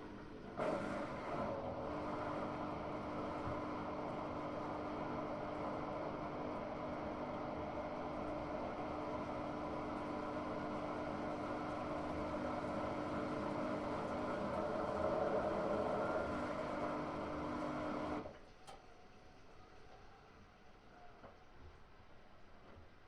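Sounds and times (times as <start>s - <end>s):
washing machine humming and whirring: 0.0s - 23.0s.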